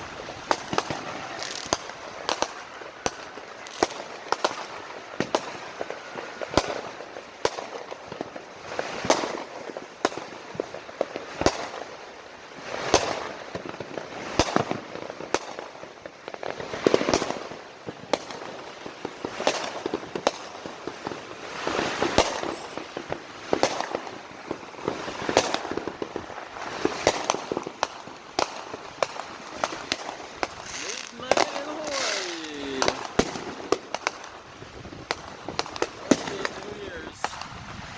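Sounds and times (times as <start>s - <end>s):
fireworks banging and crackling: 0.0s - 37.9s.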